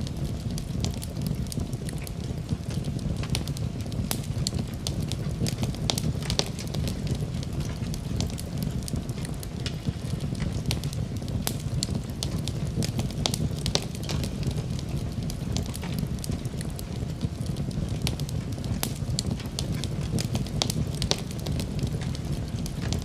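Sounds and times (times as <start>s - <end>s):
fire crackles and pops: 0.0s - 23.0s
low rumble of fire: 0.0s - 23.0s.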